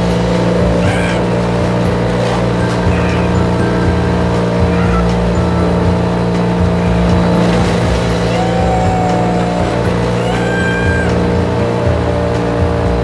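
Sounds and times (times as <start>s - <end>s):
wood chipper engine droning: 0.0s - 13.0s.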